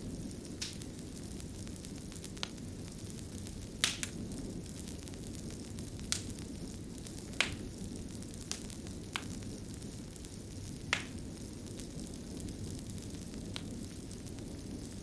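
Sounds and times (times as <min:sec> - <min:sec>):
fire popping and snapping: 0:00.0 - 0:15.0
fire rushing: 0:00.0 - 0:15.0.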